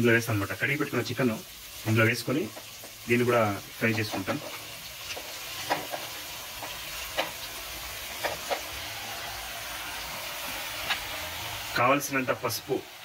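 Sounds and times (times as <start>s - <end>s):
oil sizzling in a pot: 0.0s - 13.0s.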